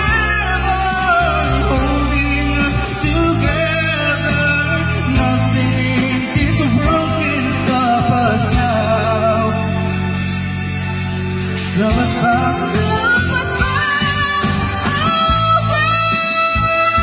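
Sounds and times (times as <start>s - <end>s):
man singing into microphone: 0.0s - 10.3s, 11.6s - 17.0s
backing music with low notes: 0.0s - 17.0s.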